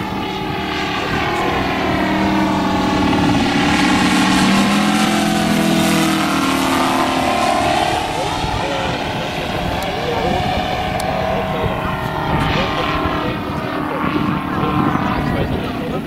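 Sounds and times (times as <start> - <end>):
model plane engine in flight: 0.0 - 16.0.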